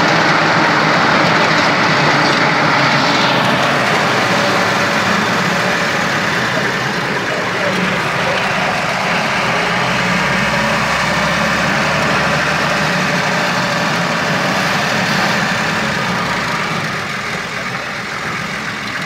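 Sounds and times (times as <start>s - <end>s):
engine running from inside cab: 0.0s - 19.0s.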